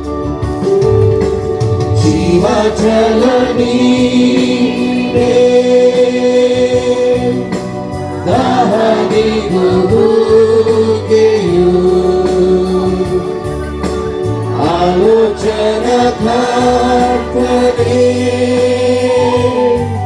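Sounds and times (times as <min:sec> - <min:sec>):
instrumental accompaniment: 0:00.0 - 0:20.0
voices singing worship song: 0:02.0 - 0:20.0.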